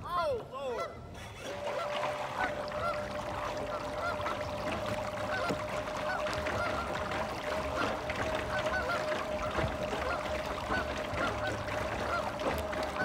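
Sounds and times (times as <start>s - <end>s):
geese honking: 0.8s - 13.0s.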